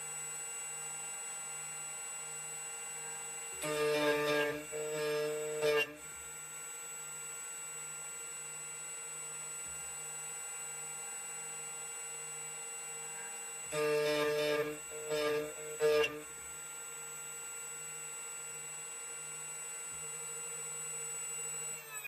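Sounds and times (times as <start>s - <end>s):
key cutting machine humming: 1.5s - 22.0s.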